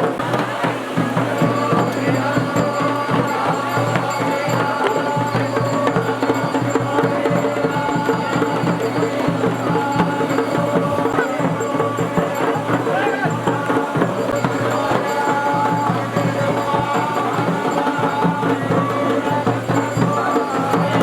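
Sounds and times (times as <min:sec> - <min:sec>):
fast drum rhythm: 0:00.0 - 0:21.0.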